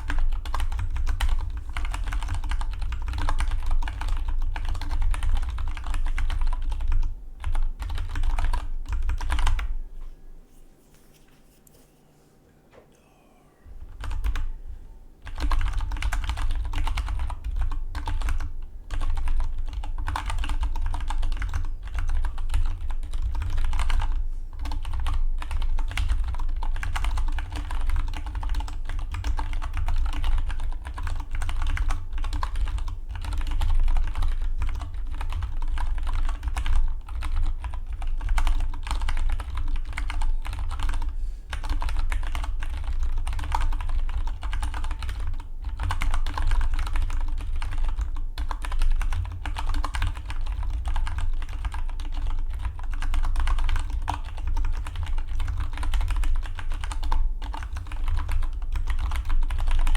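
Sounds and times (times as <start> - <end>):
mechanical keyboard typing: 0.0 - 9.7, 13.9 - 14.5, 15.2 - 59.9.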